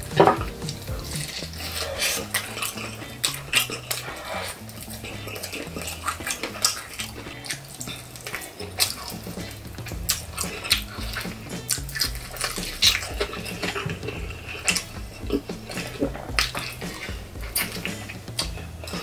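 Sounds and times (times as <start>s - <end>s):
chewing crispy chicken: 0.0s - 19.0s
soft background music: 0.0s - 19.0s
wet mouth sounds: 0.0s - 19.0s.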